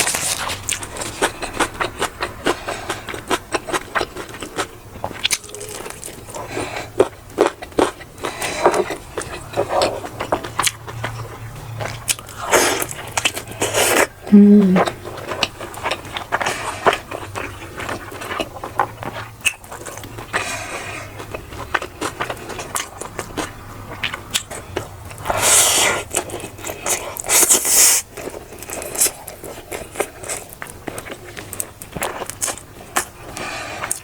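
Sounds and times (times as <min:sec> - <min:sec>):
chewing and biting: 0:00.0 - 0:14.2, 0:14.8 - 0:34.0.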